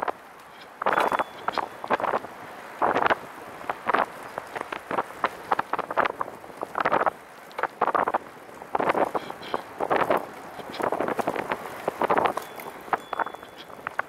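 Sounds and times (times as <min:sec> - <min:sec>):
trike riding on paved trail: 0:00.0 - 0:14.0.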